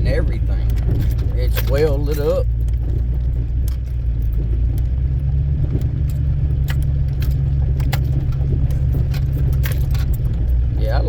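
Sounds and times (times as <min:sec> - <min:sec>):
diesel engine droning: 0:00.0 - 0:11.0
light rattling clicks: 0:00.2 - 0:11.0.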